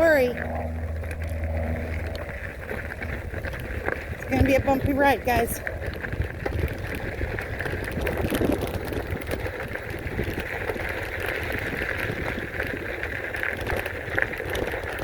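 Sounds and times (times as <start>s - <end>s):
small rattles and ticks: 0.0s - 15.0s
tyre and road noise: 0.0s - 15.0s
wind rumbling on microphone: 0.0s - 15.0s.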